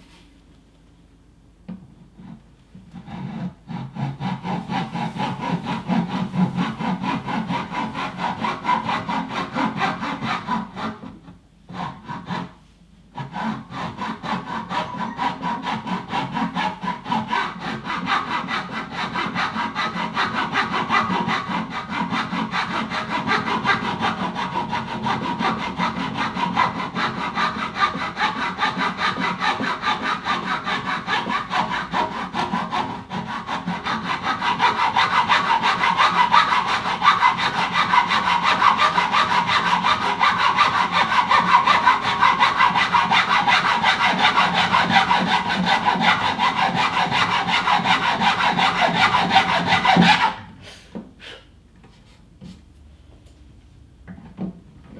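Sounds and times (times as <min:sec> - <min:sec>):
saw cutting wood: 0:03.0 - 0:11.1, 0:13.2 - 0:50.5.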